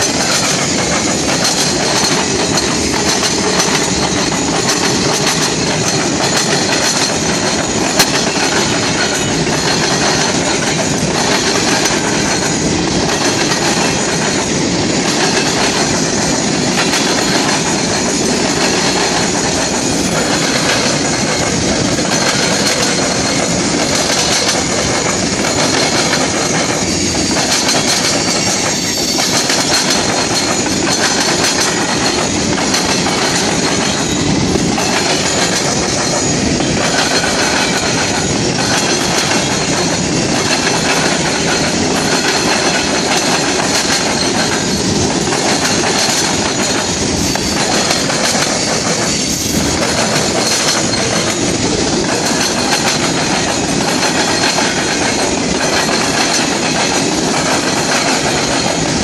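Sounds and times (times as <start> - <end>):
freight cars rumbling on rails: 0.0 - 59.0
wheels clacking over rail joints: 0.0 - 59.0.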